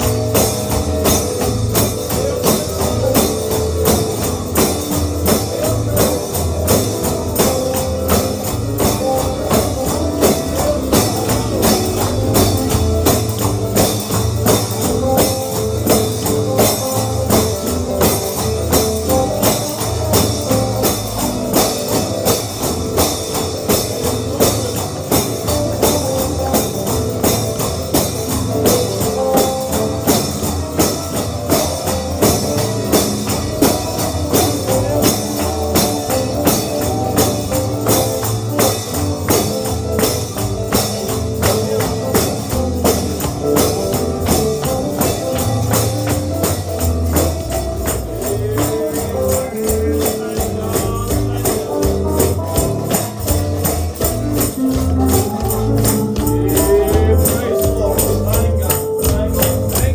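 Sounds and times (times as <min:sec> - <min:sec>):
tambourine fast beat: 0:00.0 - 0:59.9
upbeat gospel band music: 0:00.0 - 0:59.9.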